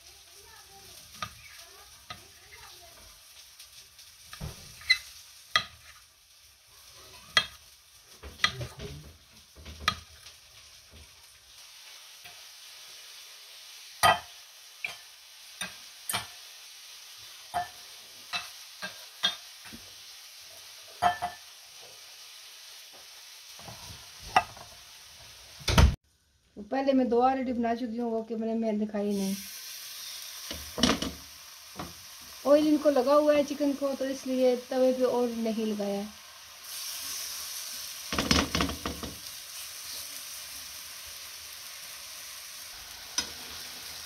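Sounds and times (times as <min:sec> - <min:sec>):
faint steady hiss: 0:00.0 - 0:44.0.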